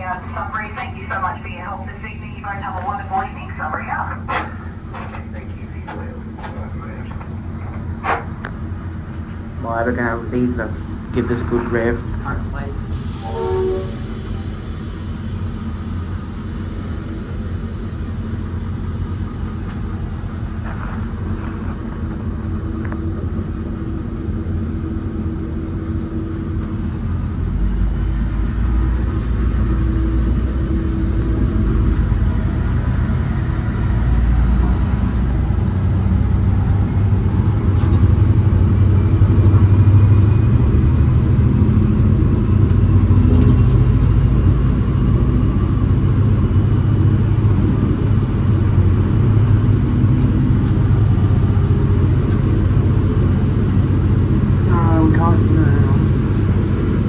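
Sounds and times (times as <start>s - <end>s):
diesel locomotive rumble: 0.0s - 57.0s
rising whine: 11.2s - 57.0s.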